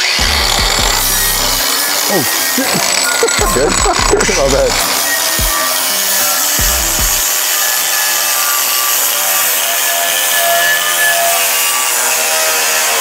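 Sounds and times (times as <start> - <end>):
wire wheel grinder on steel: 0.0 - 13.0.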